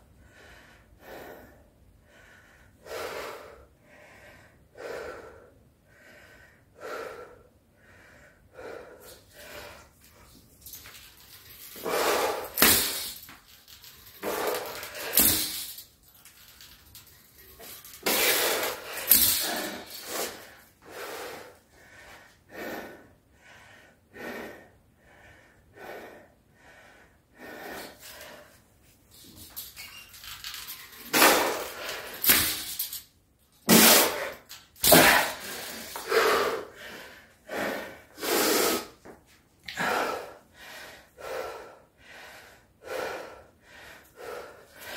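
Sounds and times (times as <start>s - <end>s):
man gasping and exhaling: 0.2s - 33.0s, 33.6s - 44.9s.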